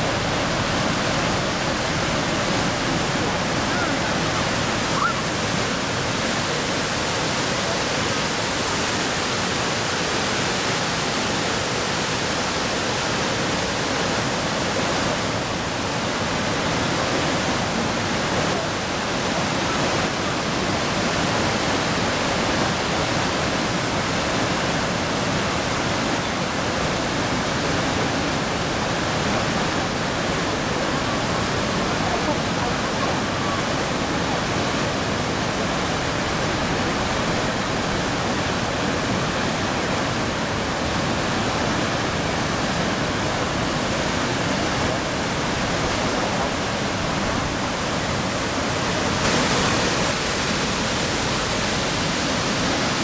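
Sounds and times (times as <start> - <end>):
white water rushing over rocks: 0.0 - 53.0.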